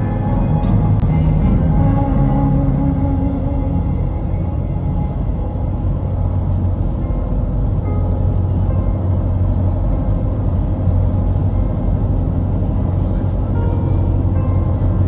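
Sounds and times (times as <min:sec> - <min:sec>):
car road rumble: 0:00.0 - 0:15.0.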